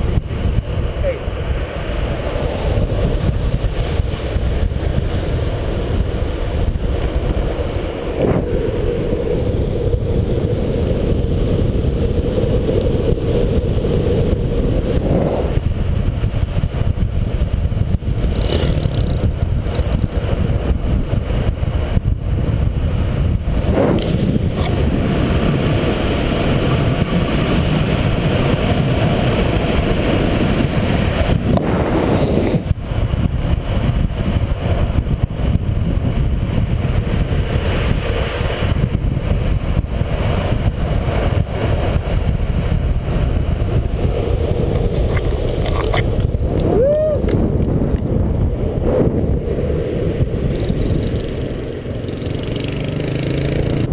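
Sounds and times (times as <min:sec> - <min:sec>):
wheels rolling on asphalt: 0:00.0 - 0:53.9
wind rushing over microphone: 0:00.0 - 0:53.9.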